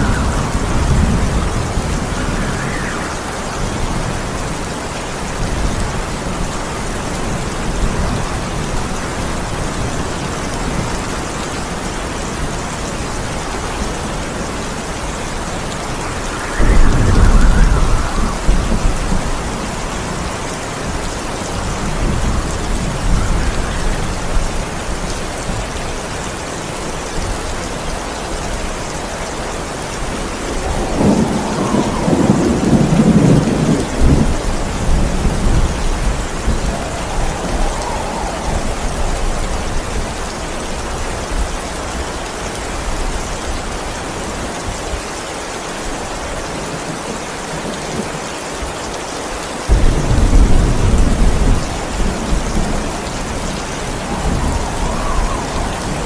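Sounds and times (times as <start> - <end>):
thunder rumbling: 0.0 - 42.0, 49.7 - 56.0
heavy rain: 0.0 - 56.0.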